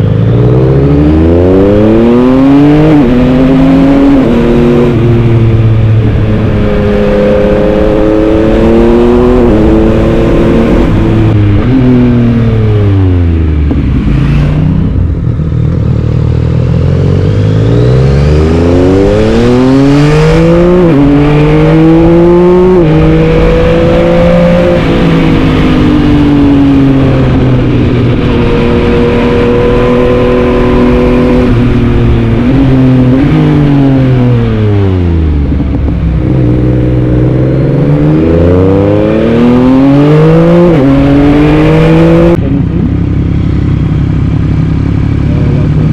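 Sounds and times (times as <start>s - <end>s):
motorcycle engine accelerating: 0.0s - 45.9s
wind noise: 1.0s - 15.5s, 17.6s - 42.9s.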